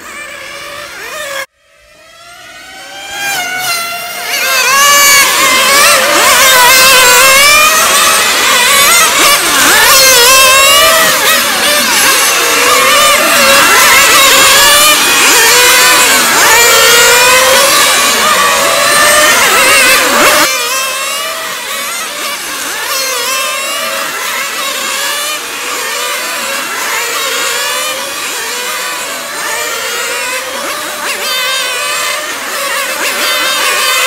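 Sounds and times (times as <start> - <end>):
rc car engines revving: 0.0 - 34.0.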